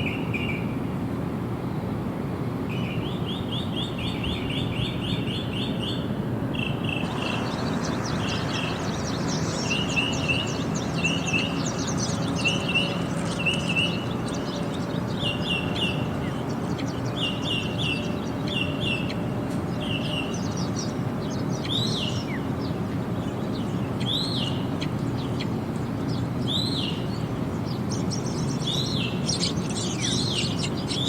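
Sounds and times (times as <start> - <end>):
songbird chirping phrases: 2.7 - 31.0.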